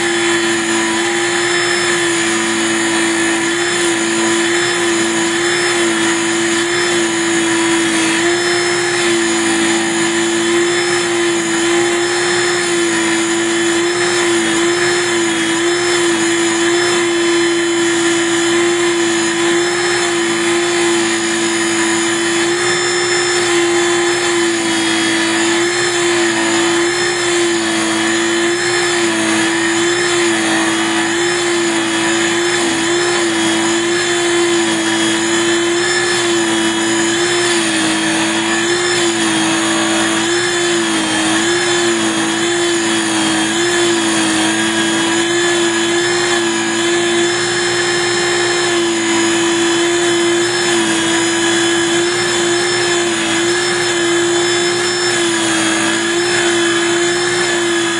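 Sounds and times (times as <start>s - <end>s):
mini lathe motor whine: 0.0s - 57.9s.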